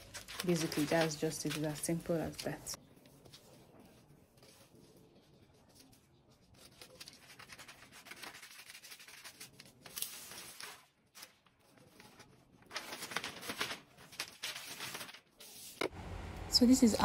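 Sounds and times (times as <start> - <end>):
paper rustling and scraping: 0.0 - 15.9.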